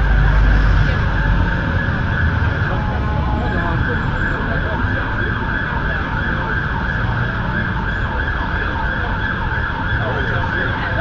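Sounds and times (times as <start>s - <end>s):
city traffic rumble: 0.0s - 11.0s
emergency siren: 0.0s - 11.0s.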